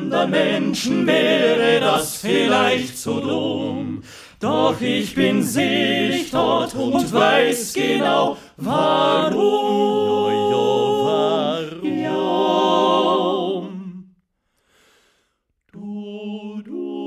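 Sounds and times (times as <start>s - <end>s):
male quartet singing in harmony: 0.0s - 14.1s, 15.8s - 17.0s.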